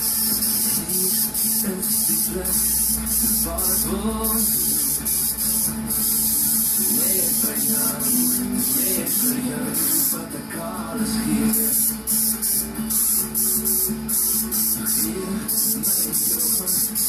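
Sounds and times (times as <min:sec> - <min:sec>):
airbrush hissing: 0:00.0 - 0:10.4, 0:11.1 - 0:17.0.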